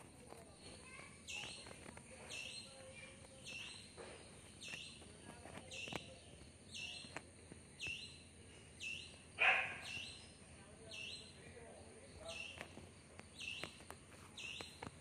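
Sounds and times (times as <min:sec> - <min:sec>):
bird chirping: 0:00.2 - 0:15.0.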